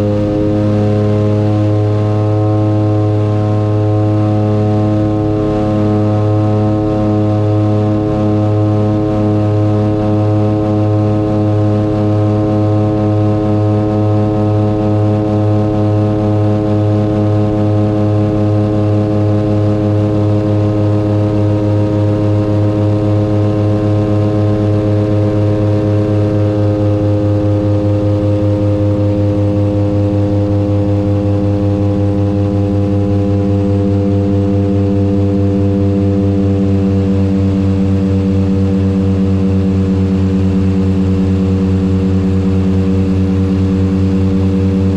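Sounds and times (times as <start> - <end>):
propeller aircraft droning: 0.0 - 44.9.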